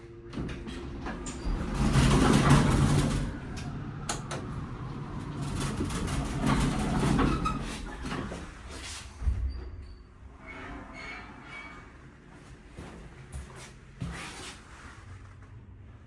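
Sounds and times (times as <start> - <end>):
elevator shaft rumbling and rattling: 0.0 - 16.0.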